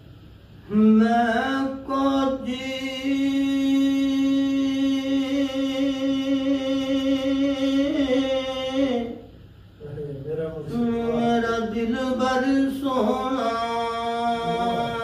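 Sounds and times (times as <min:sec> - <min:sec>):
man singing unaccompanied: 0:00.6 - 0:09.3, 0:10.3 - 0:15.0.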